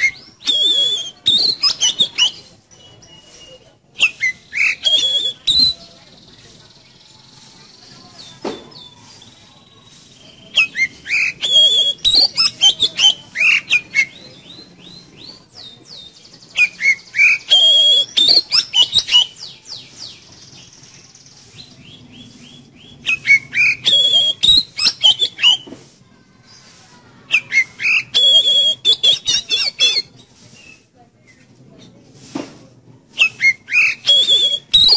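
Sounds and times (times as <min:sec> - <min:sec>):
songbird whistling and chattering: 0:00.0 - 0:25.8, 0:26.5 - 0:31.4, 0:33.1 - 0:34.9.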